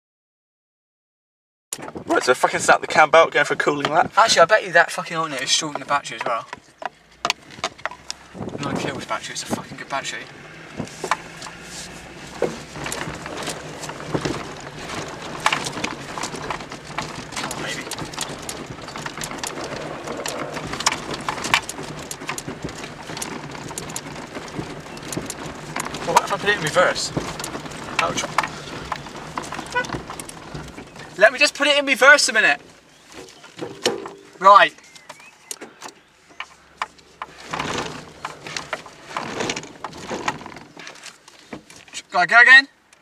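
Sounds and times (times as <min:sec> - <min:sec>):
car cabin rumble: 0:01.8 - 0:42.6
clicks and knocks in car cabin: 0:01.8 - 0:43.0.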